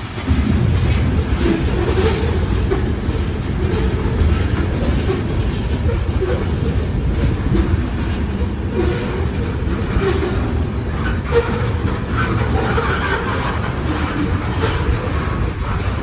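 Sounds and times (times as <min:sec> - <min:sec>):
freight train rolling past: 0:00.0 - 0:16.0
steel wheels on rails: 0:00.0 - 0:16.0.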